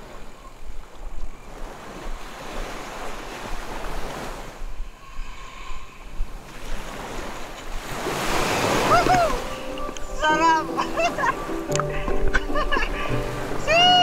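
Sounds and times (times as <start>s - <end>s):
waves washing onto sandy beach: 0.0s - 14.0s
wind rumbling on microphone: 0.0s - 14.0s.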